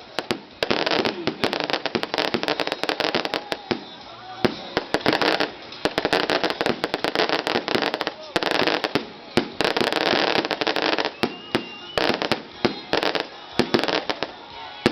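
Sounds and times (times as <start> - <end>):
firecrackers banging: 0.0 - 14.9.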